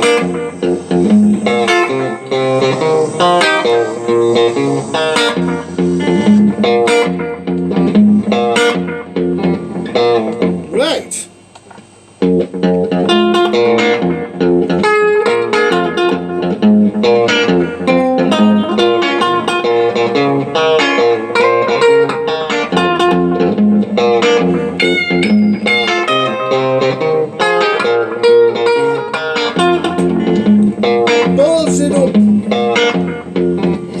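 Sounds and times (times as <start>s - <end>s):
looped electric guitar chords: 0.0s - 34.0s
plucked guitar notes: 0.0s - 34.0s.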